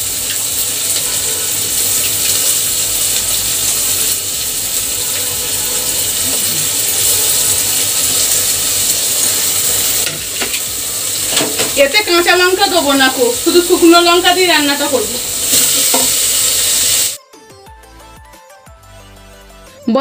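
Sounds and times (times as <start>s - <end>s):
onions sizzling in hot oil: 0.0s - 17.2s.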